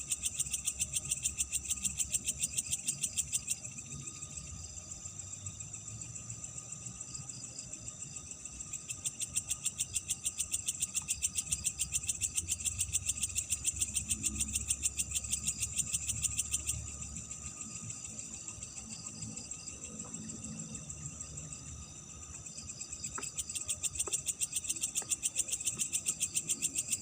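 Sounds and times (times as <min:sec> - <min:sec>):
crickets chirping: 0:00.0 - 0:27.0
rapid pulsing insect call: 0:00.0 - 0:27.0.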